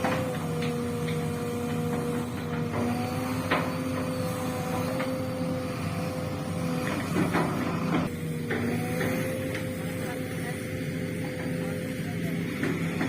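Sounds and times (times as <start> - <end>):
excavator engine and hydraulics whine: 0.0 - 13.0.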